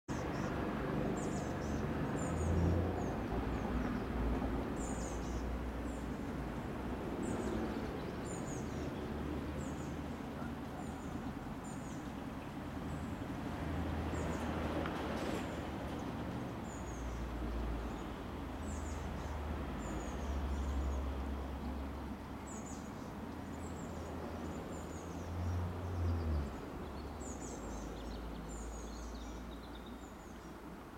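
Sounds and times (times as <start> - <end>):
small birds chirping: 0.1 - 6.3, 7.2 - 13.2, 15.9 - 30.8.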